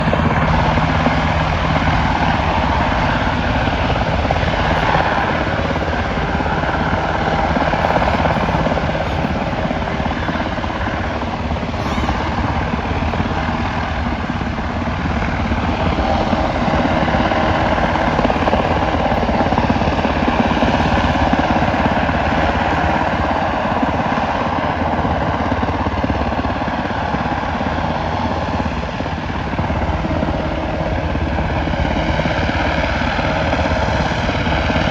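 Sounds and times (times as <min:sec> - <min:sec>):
helicopter rotor chopping: 0:00.0 - 0:31.0
turbine running noise: 0:00.0 - 0:32.3.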